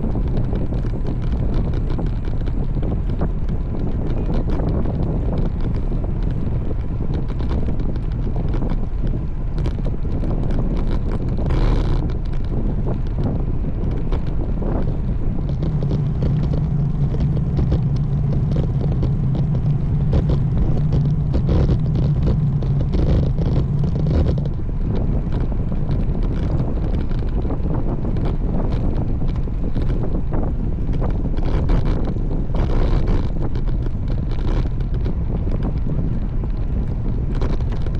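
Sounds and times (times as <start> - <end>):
steady low hum: 0.0 - 37.9
wind buffeting microphone: 0.0 - 37.9.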